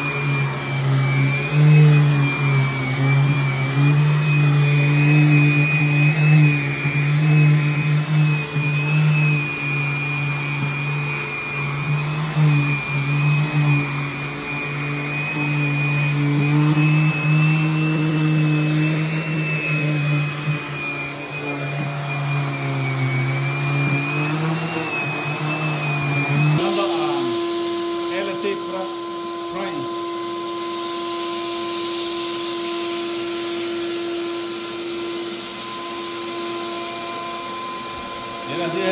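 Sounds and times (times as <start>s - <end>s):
dust extraction vacuum hum: 0.0s - 38.9s
orbital sander whining: 0.0s - 38.9s.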